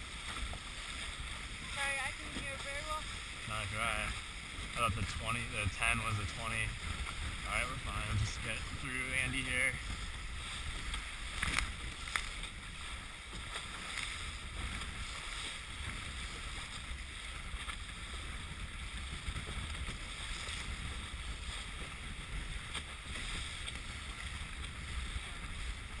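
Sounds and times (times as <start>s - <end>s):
water running along hull: 0.0s - 26.0s
wind buffeting microphone: 0.0s - 26.0s.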